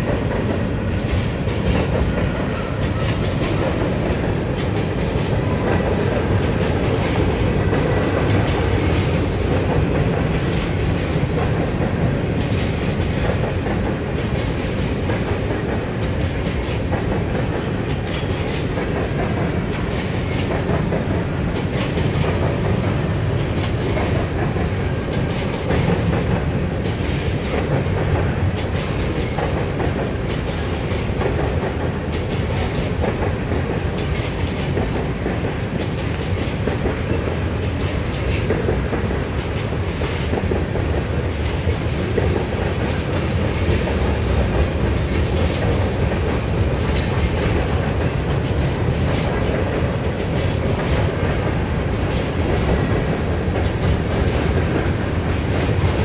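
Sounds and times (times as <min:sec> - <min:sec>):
freight train cars rolling past: 0:00.0 - 0:56.0
wheels clacking over rail joints: 0:00.0 - 0:56.0.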